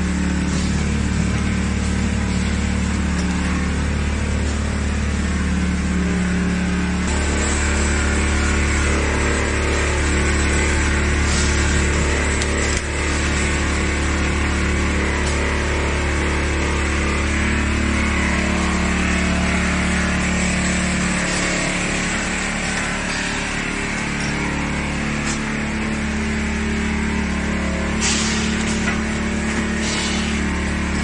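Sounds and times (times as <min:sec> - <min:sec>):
packing machine humming: 0:00.0 - 0:31.0.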